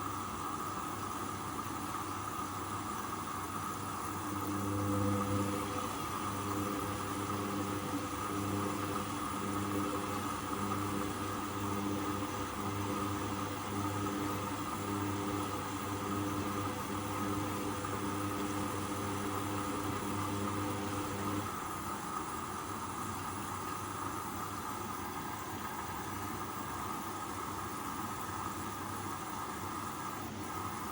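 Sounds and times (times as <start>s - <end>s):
washing machine motor hum: 0.0s - 30.9s.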